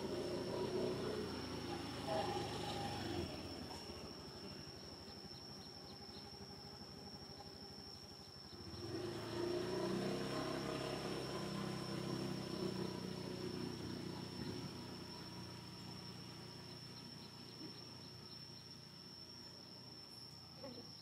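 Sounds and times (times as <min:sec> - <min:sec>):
vehicle engine hum: 0:00.0 - 0:19.8
high insect whine: 0:00.0 - 0:21.0.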